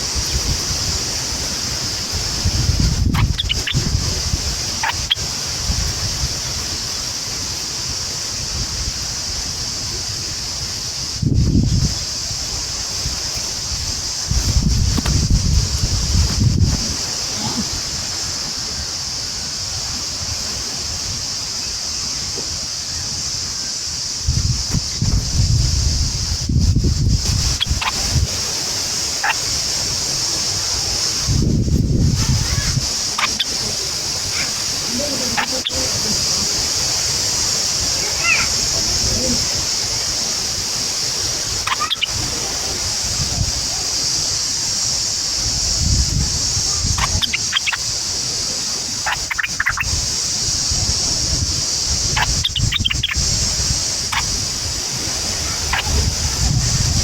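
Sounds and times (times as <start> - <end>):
high-pitched hiss: 0.0 - 57.0
wind buffeting microphone: 0.0 - 57.0.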